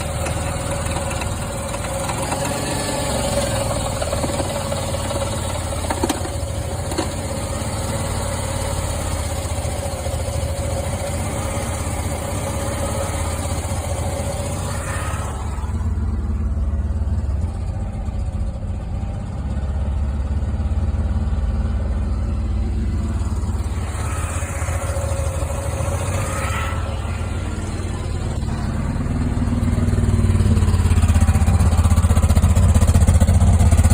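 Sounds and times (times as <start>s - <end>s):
car engine idling: 0.0s - 33.9s
engine ticking: 0.0s - 33.9s.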